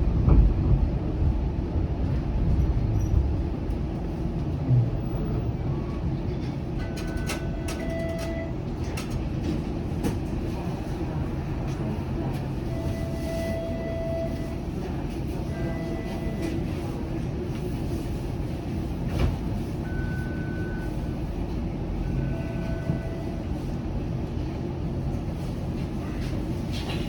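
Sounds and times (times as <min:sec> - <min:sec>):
streetcar rumbling on track: 0:00.0 - 0:27.0.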